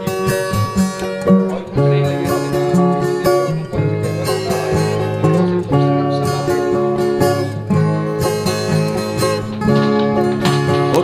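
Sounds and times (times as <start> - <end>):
guitar accompaniment: 0.0 - 11.0
plucked string melody: 0.0 - 11.0.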